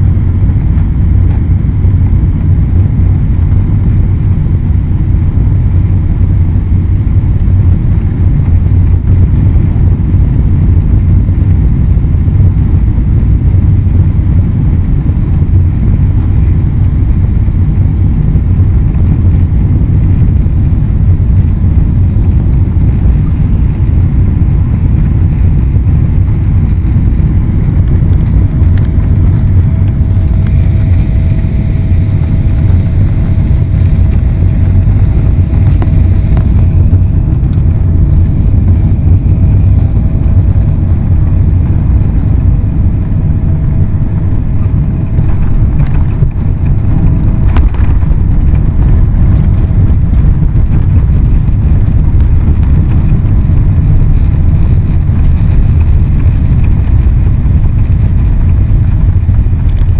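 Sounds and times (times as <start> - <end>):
aircraft touching down on runway: 0.0 - 59.9
faint steady whine: 0.0 - 59.9
jet engine and airflow rumble: 0.0 - 59.9.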